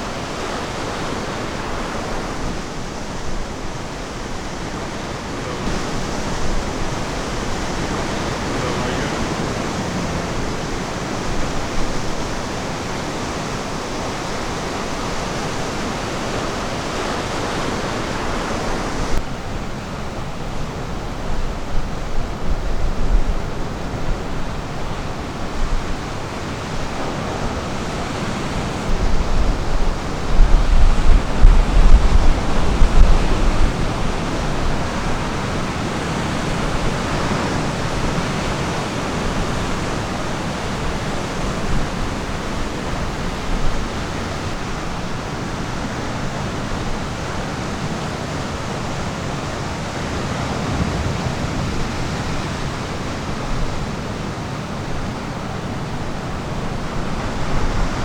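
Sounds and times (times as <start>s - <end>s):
surf washing on beach: 0.0s - 58.0s.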